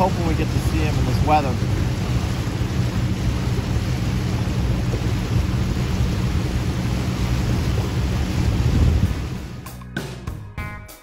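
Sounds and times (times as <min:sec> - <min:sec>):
boat engines droning: 0:00.0 - 0:09.6
wind buffeting microphone: 0:00.0 - 0:09.6.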